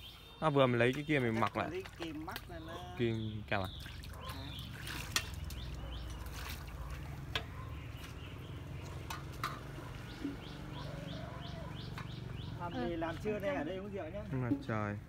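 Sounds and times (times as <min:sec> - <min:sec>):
water sloshing: 0:00.7 - 0:13.7.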